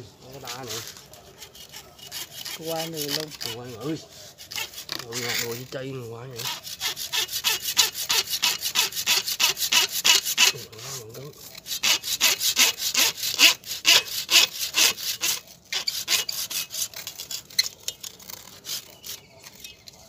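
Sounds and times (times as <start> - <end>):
hand saw cutting wood: 0.2 - 20.0.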